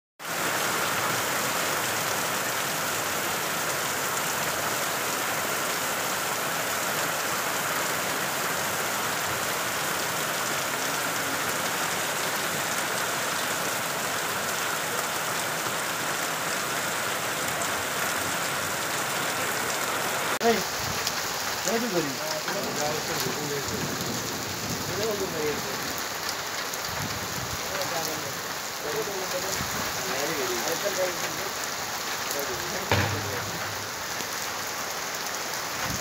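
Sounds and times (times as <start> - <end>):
steady rain: 0.2 - 36.0.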